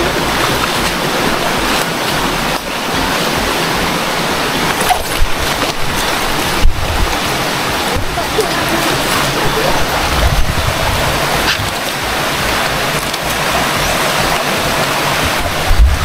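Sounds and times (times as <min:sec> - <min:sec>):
river water rushing over stones: 0:00.0 - 0:16.0.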